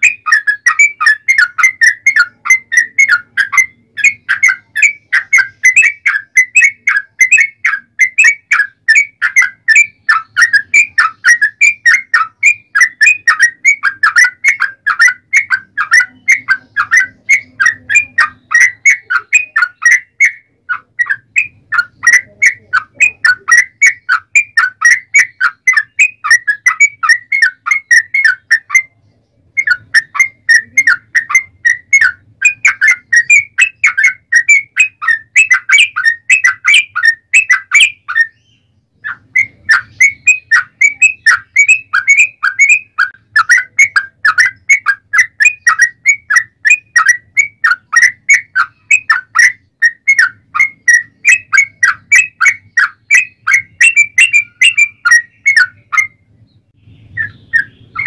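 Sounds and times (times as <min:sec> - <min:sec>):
bird singing fast chirps: 0:00.0 - 0:58.0.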